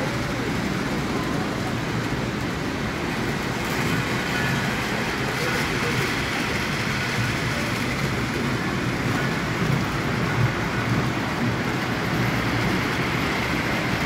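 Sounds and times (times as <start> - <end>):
indoor crowd hubbub: 0.0 - 14.0
model trains rumbling: 0.0 - 14.0.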